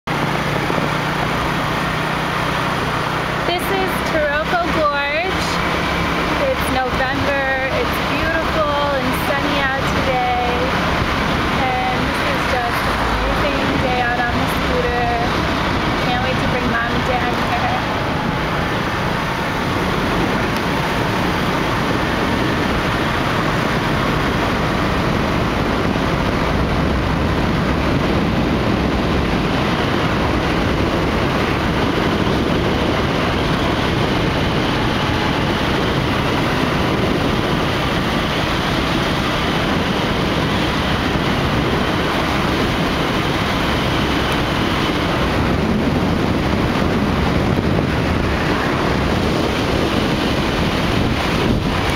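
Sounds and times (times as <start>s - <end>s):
vehicle road and wind noise: 0.0s - 51.9s.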